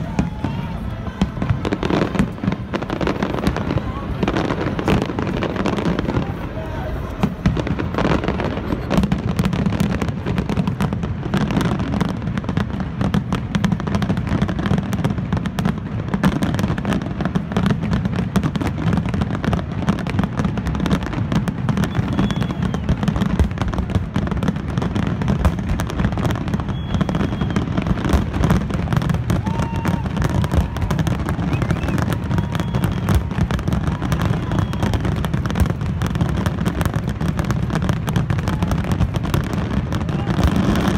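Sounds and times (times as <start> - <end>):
fireworks booming and crackling: 0.0 - 40.9.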